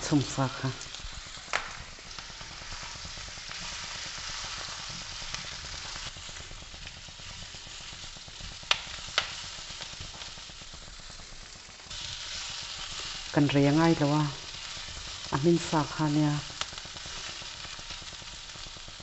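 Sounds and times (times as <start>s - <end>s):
food sizzling in a wok: 0.0s - 19.0s.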